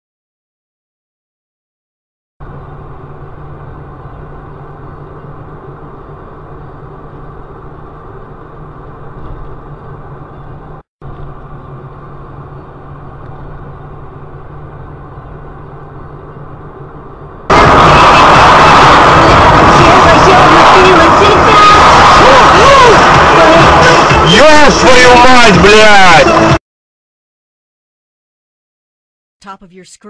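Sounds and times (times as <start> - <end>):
vehicle engine and road noise: 2.4 - 26.6.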